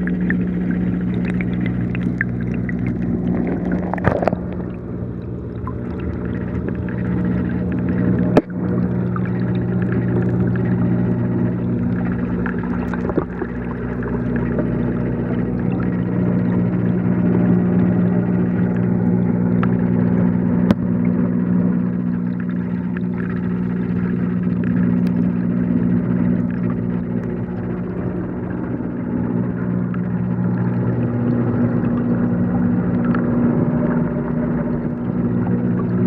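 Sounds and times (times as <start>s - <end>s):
aquarium equipment hum underwater: 0.0s - 36.0s
low water wash: 0.0s - 36.0s.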